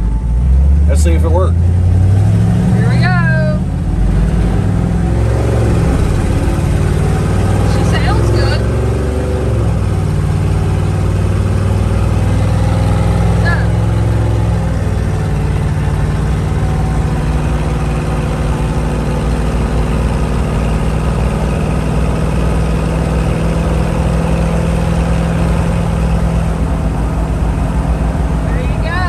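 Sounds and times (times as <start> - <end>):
truck engine and road noise: 0.0 - 29.0.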